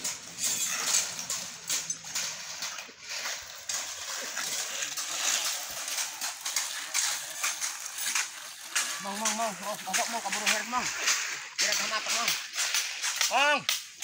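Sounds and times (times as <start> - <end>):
shovels scraping wet concrete: 0.0 - 14.0.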